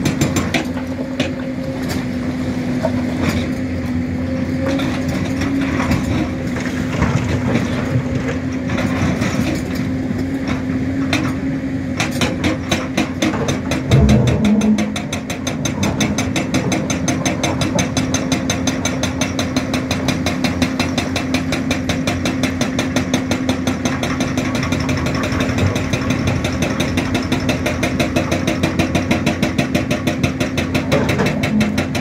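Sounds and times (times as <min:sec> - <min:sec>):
heavy diesel engines running: 0:00.0 - 0:32.0.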